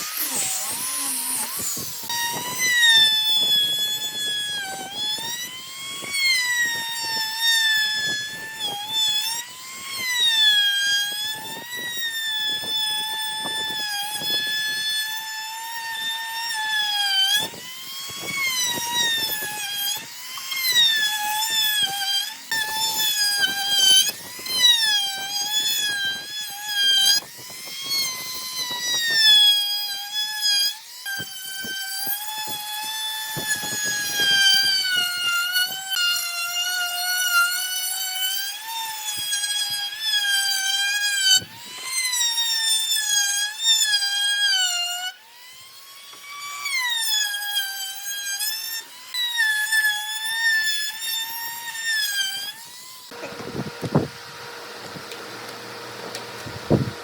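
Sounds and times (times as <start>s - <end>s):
electric power tool whining: 0.0s - 57.0s.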